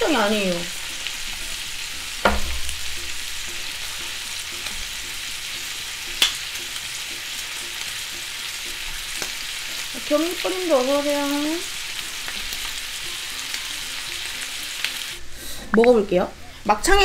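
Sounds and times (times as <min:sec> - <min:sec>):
meat sizzling on a grill: 0:00.0 - 0:15.3.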